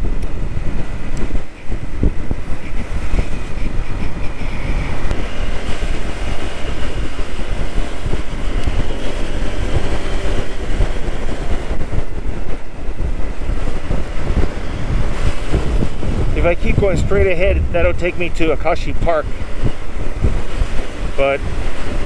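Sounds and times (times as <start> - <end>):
scooter engine low rumble: 0.0 - 22.0
wind buffeting microphone: 0.0 - 22.0.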